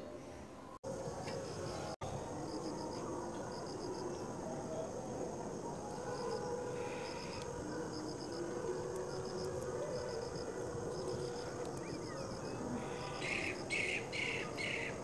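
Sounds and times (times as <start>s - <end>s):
crickets chirping: 0.8s - 15.0s.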